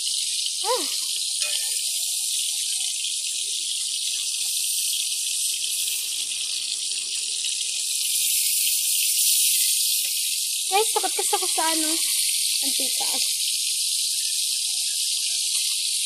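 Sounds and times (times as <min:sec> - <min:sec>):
fish deep-frying sizzle: 0:00.0 - 0:16.0.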